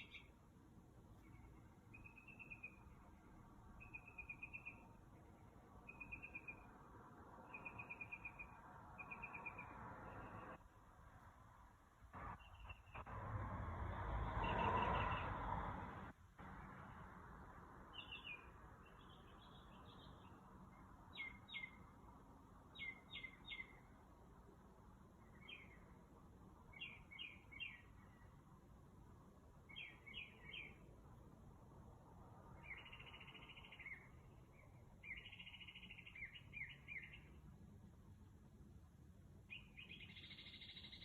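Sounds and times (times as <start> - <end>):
songbird singing: 0.0 - 10.7, 12.2 - 13.2, 14.2 - 15.5, 16.4 - 38.2, 39.1 - 41.0.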